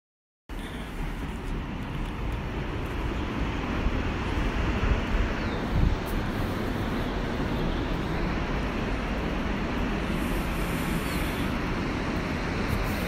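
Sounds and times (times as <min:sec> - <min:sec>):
wind buffeting microphone: 0:00.8 - 0:13.0.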